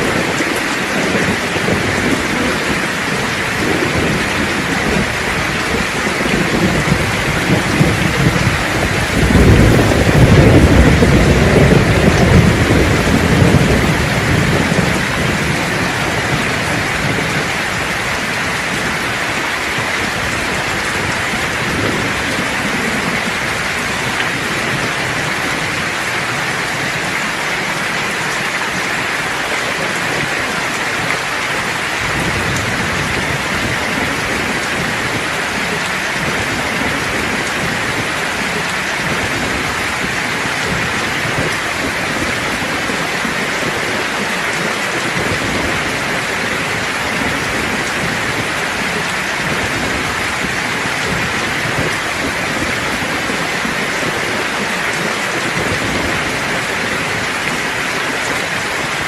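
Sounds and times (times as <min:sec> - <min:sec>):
thunder rolling: 0:00.0 - 0:27.1, 0:29.7 - 0:59.0
steady rain falling: 0:00.0 - 0:59.0.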